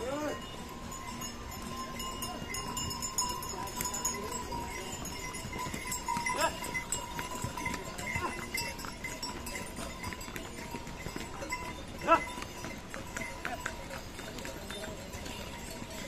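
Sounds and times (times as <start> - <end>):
animal neck bells ringing: 0.0 - 16.0
crowd chatter: 0.0 - 16.0
hooves clopping on stone: 0.0 - 16.0.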